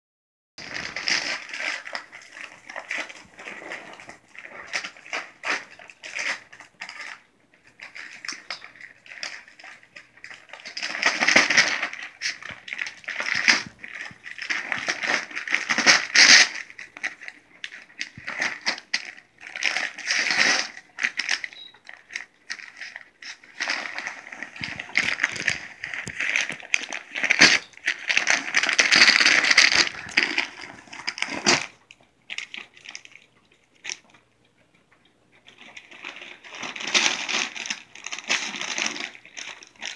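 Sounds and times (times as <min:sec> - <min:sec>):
dog tearing wrapping paper: 0:00.6 - 0:33.2, 0:35.5 - 0:39.9.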